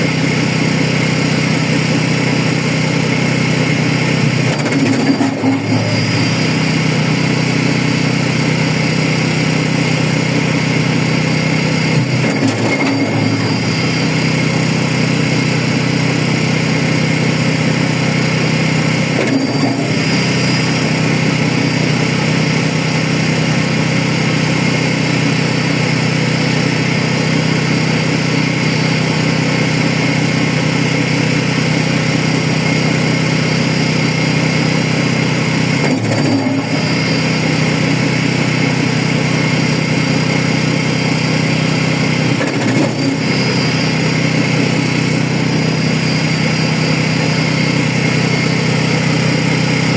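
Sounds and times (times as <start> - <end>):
wood chipper engine running: 0.0 - 49.9.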